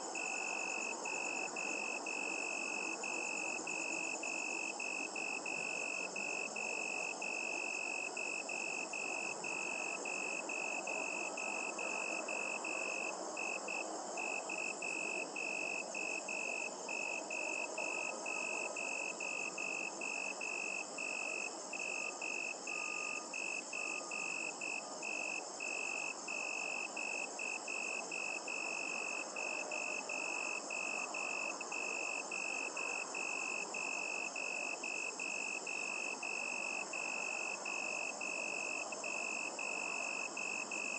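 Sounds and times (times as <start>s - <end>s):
crickets chirping: 0.0s - 40.9s
low background hiss: 0.0s - 40.9s
high-pitched insect trill: 0.1s - 40.9s.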